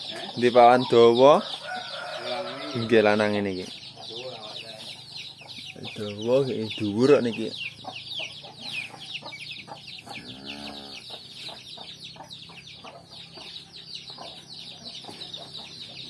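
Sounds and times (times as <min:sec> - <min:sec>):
chickens clucking and chirping: 0:00.0 - 0:16.0.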